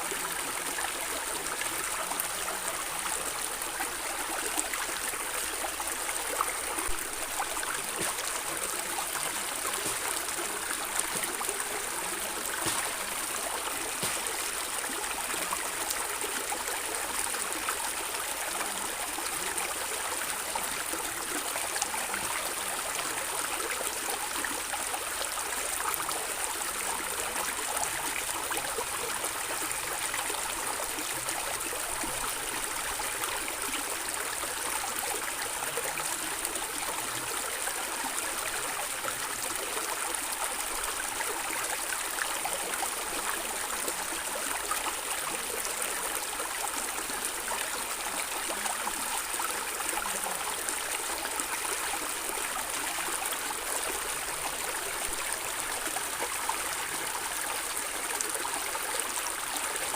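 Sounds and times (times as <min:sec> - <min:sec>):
stream water gurgling over stones: 0:00.0 - 0:59.9.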